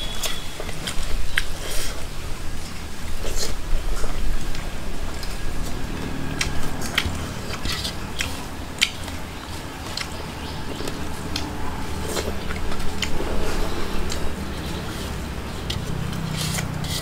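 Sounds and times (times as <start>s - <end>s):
close-up chewing: 0.0s - 17.0s
low steady hum: 0.0s - 17.0s.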